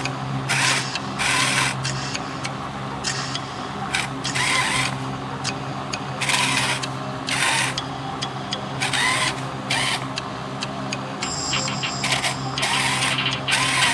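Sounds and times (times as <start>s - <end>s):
small motor humming: 0.0s - 8.0s, 8.8s - 10.3s, 11.2s - 13.9s.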